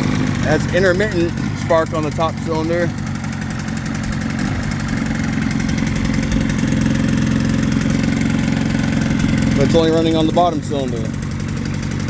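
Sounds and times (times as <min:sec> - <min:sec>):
outboard motor running unevenly: 0:00.0 - 0:12.0.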